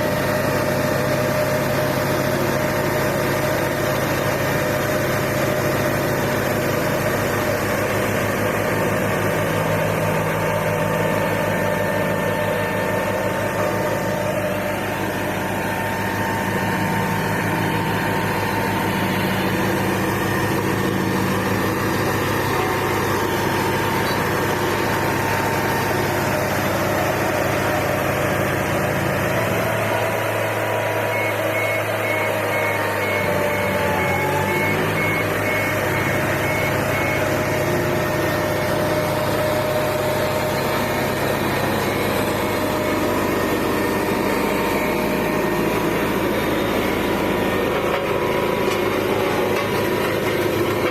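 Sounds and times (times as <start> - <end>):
road roller engine running: 0.0 - 50.9.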